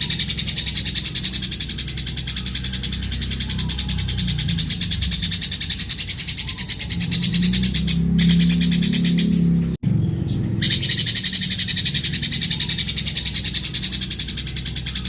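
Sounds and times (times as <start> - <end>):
lovebird rasping chatter: 0.0 - 9.5, 10.3 - 15.0.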